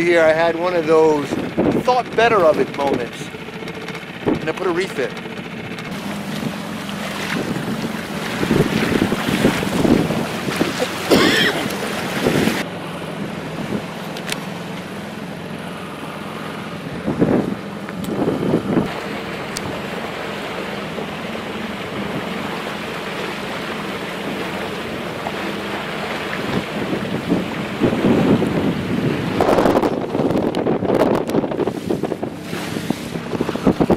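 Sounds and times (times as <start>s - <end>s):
wind buffeting microphone: 0.0s - 12.7s, 16.7s - 33.9s
water rushing along hull: 0.0s - 33.9s.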